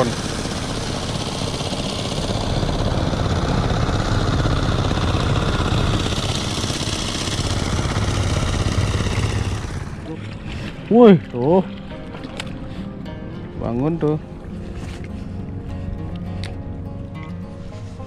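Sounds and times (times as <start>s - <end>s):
small boat engine running: 0.0s - 18.0s.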